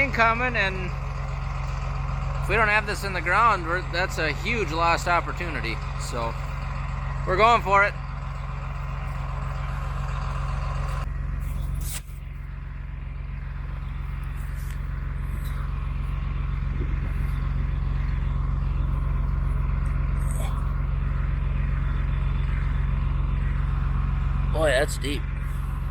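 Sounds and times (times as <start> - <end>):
tractor engine droning: 0.0 - 25.9.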